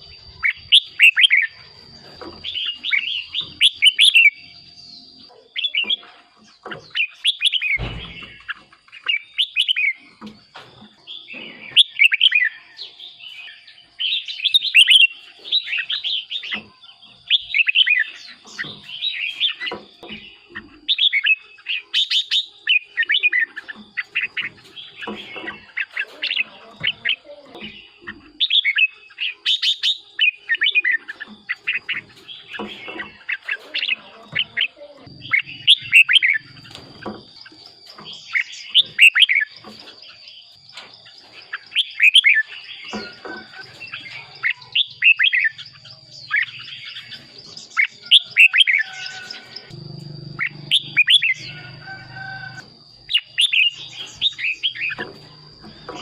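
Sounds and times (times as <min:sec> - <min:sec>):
bird singing warbled phrases: 0:00.0 - 0:56.0.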